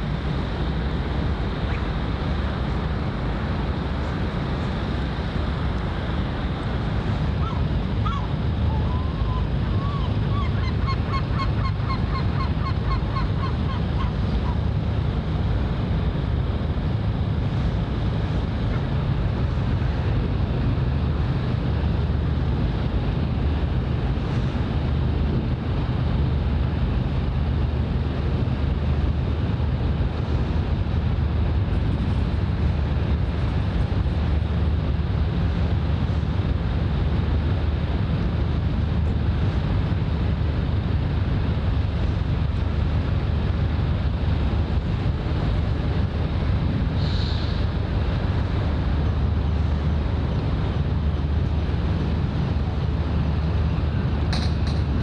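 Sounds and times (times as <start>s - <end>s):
constant low rumble: 0.0s - 55.0s.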